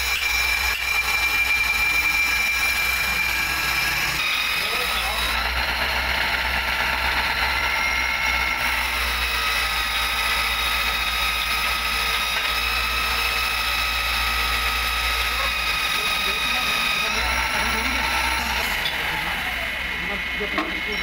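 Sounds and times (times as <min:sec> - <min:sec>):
grinding wheel grinding steel: 0:00.0 - 0:21.0.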